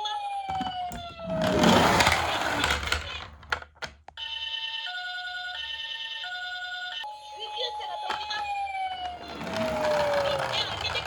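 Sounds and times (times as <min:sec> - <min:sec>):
toy ambulance siren: 0:00.0 - 0:03.3, 0:04.2 - 0:11.0.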